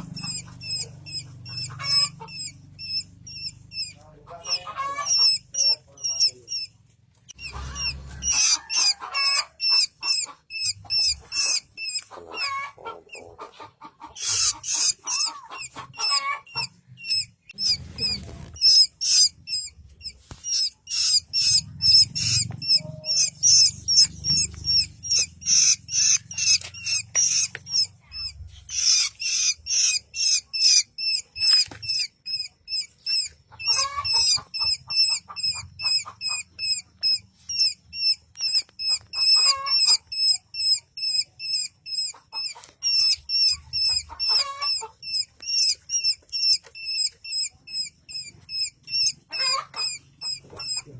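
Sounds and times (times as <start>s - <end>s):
baby birds cheeping: 0.0s - 50.9s
harsh lower bird calls: 0.0s - 50.9s.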